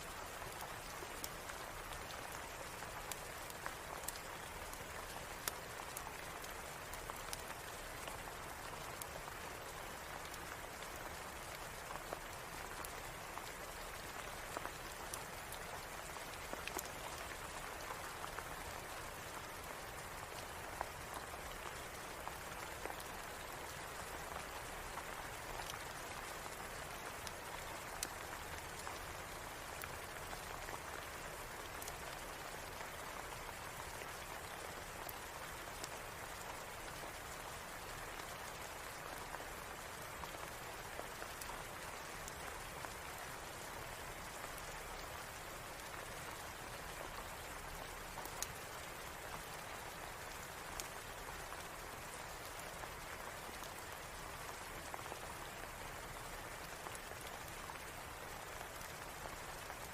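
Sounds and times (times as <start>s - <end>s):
steady rain with ticks: 0.0s - 59.9s.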